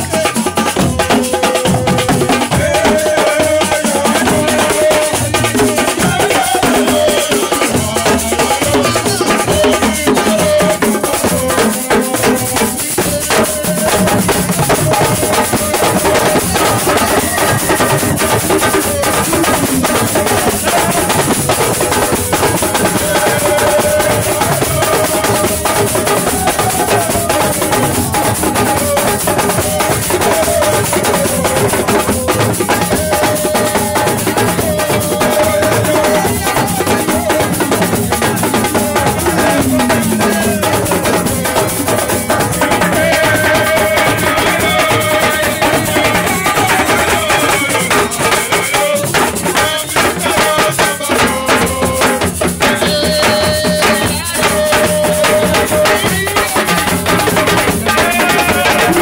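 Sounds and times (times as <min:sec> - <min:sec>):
fast dense drumming: 0:00.0 - 0:59.0.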